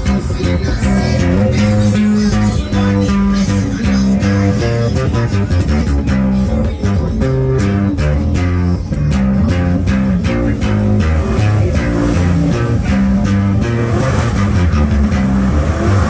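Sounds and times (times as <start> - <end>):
acoustic bass guitar plucked: 0.0 - 16.0.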